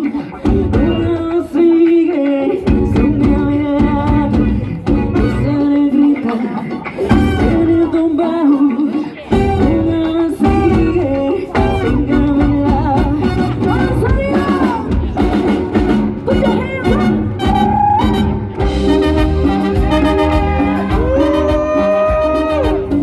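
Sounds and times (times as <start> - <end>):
live latin band music: 0.0 - 23.0.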